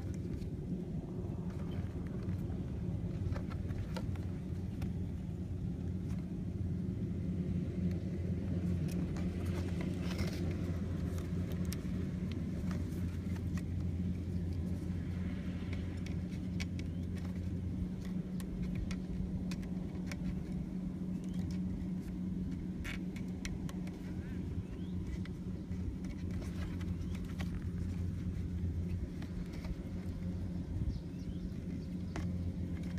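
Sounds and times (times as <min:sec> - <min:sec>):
low motor-like hum: 0:00.0 - 0:32.9.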